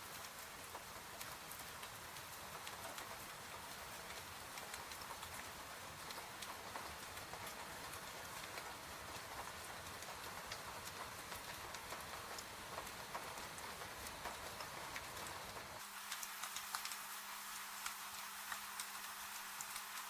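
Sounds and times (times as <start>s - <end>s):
steady rain hiss: 0.0s - 20.0s
wood fire crackling: 0.2s - 20.0s.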